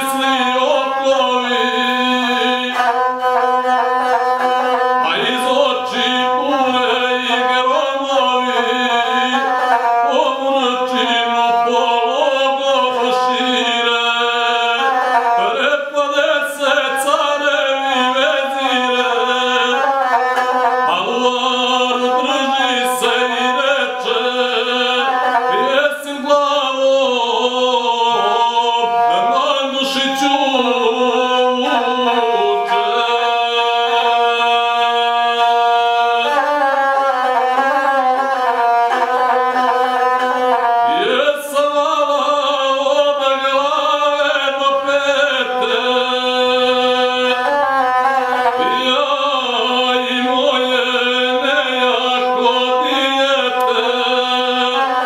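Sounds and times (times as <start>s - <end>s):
man singing epic song: 0.0s - 3.0s, 5.0s - 38.0s, 40.9s - 55.0s
bowed single-string fiddle: 0.0s - 55.0s.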